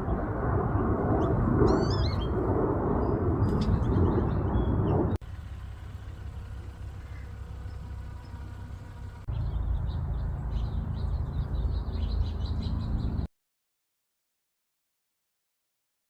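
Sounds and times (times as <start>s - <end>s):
birds chirping: 0.0s - 13.3s
low outdoor rumble: 0.0s - 13.3s.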